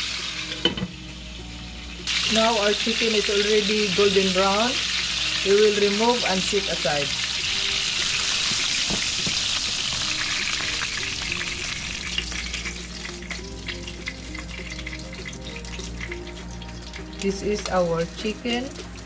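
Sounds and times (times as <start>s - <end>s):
chicken frying in oil: 0.0s - 0.8s, 1.9s - 19.0s.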